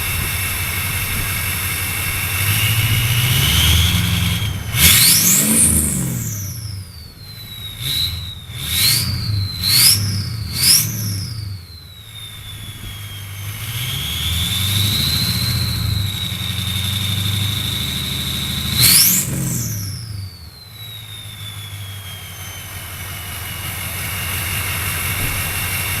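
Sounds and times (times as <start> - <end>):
diesel engine idling: 0.0 - 26.0
turbocharger whistling: 0.0 - 26.0.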